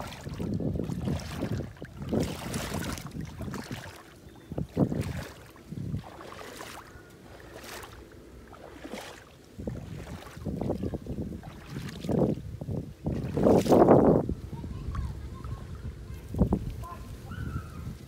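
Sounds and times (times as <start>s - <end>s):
lake water splashing: 0.0s - 18.0s
wind buffeting microphone: 0.0s - 18.0s.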